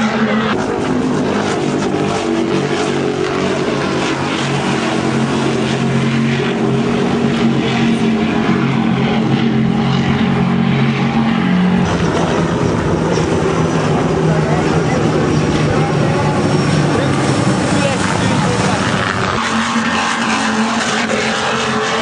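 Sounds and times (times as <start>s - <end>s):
powerboat engines droning: 0.0s - 22.0s.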